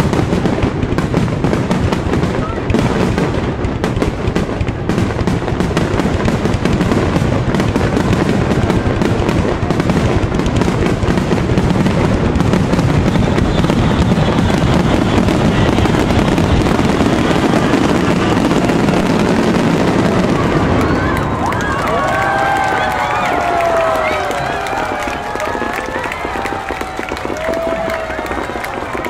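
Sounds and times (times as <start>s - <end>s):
fireworks bursting with crackling: 0.0s - 29.0s.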